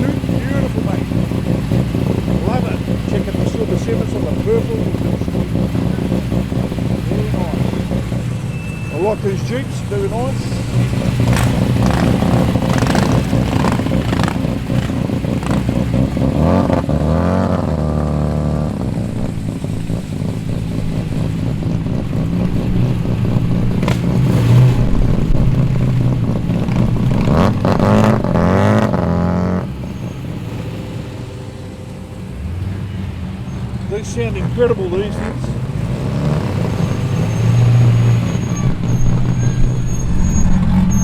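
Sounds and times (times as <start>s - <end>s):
vehicle engines revving past: 0.0s - 41.0s.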